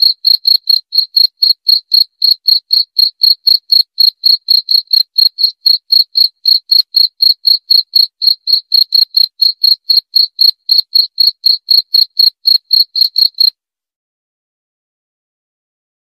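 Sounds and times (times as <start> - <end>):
cricket chirping: 0.0 - 13.5.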